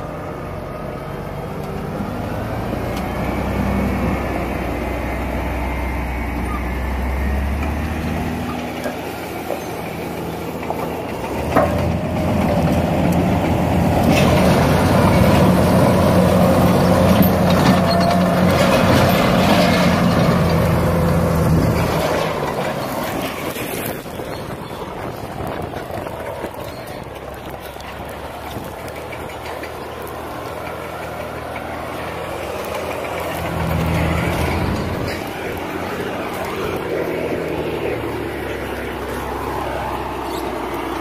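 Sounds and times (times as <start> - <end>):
heavy diesel engines: 0.0 - 41.0.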